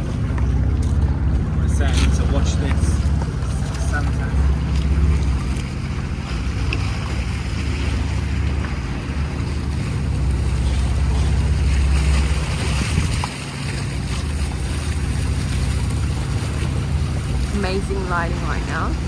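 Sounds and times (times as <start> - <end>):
boat engine rumbling: 0.0 - 19.0
wind on microphone: 0.0 - 19.0.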